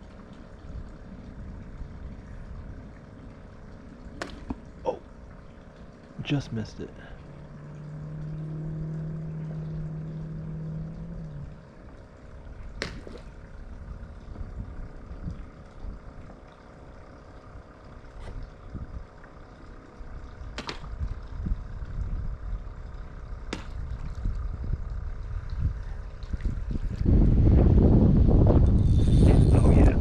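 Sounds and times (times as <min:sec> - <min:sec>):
faint steady hum: 0:00.0 - 0:30.0
low rumbling wind: 0:00.0 - 0:30.0
water noise: 0:00.0 - 0:30.0.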